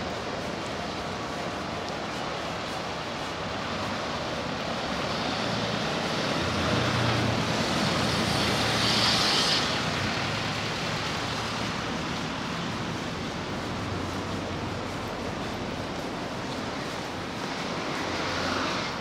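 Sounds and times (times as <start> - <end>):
background traffic hum: 0.0 - 19.0.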